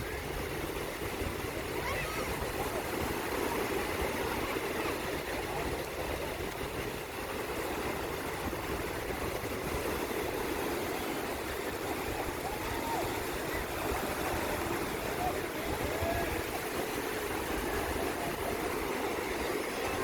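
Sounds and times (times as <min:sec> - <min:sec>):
sea rushing: 0:00.0 - 0:20.0.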